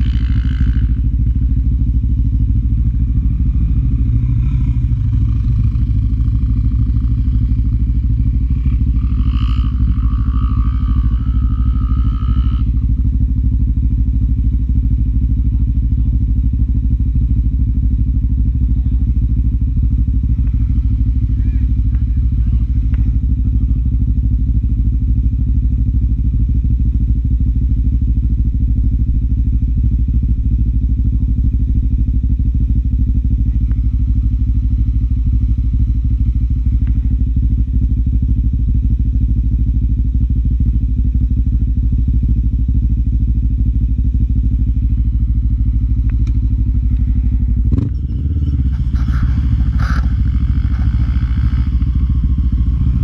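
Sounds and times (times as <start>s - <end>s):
quad bike engine idling: 0.0s - 53.0s.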